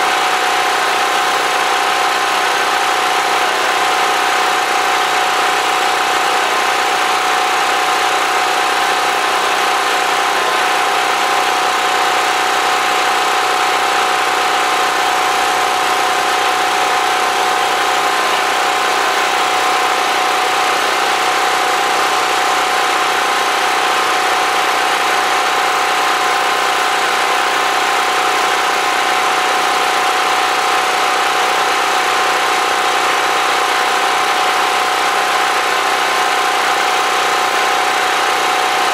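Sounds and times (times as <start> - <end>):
generator engine droning: 0.0 - 38.9.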